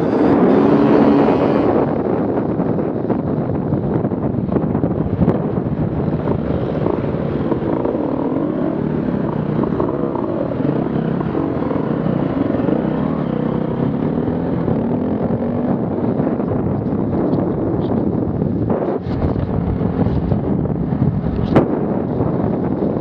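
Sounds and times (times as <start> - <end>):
off-road vehicle engines revving: 0.0 - 3.1, 5.2 - 21.8.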